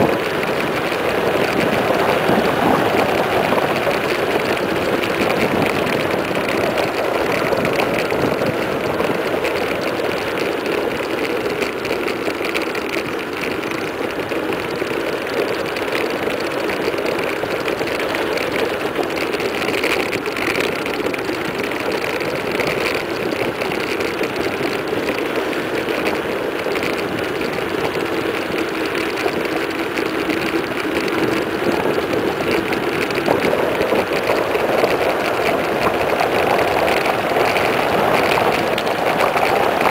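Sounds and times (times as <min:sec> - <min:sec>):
bike tyres humming on asphalt: 0:00.0 - 0:39.9
wind rushing over microphone: 0:00.0 - 0:39.9.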